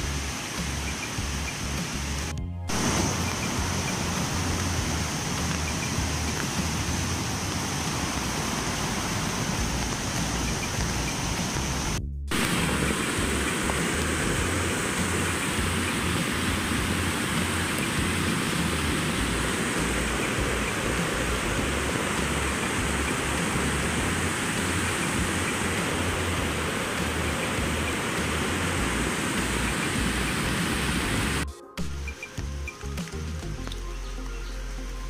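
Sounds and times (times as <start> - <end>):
water rushing over rocks: 0.0 - 31.9.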